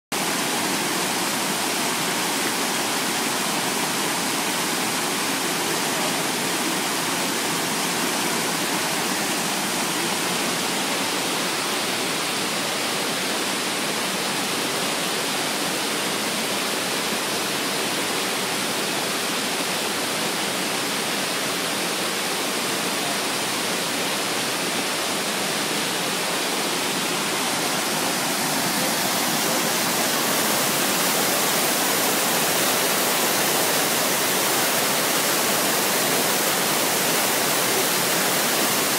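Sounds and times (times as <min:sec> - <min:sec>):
water rushing over rocks: 0:00.1 - 0:38.9.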